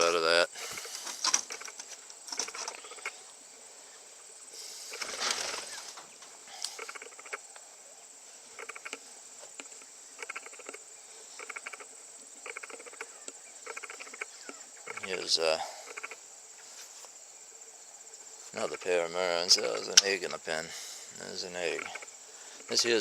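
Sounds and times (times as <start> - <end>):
insect chirping in trills: 0.0 - 23.0.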